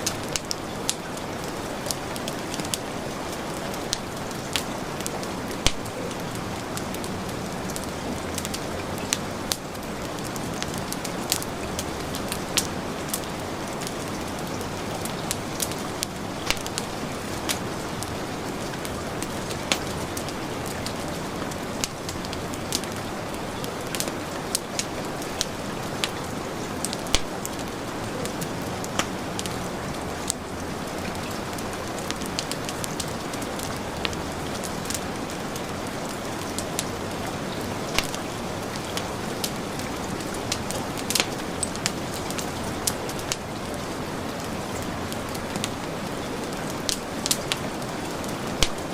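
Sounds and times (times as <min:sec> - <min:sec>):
heavy rain falling: 0:00.0 - 0:48.9
wood fire crackling: 0:00.0 - 0:48.9.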